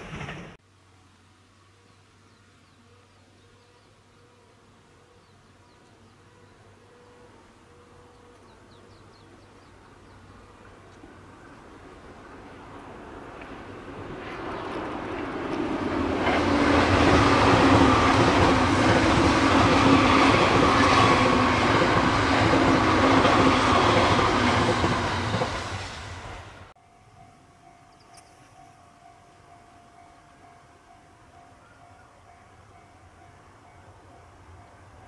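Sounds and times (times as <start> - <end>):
electric train passing: 0.0 - 0.6, 6.3 - 35.0.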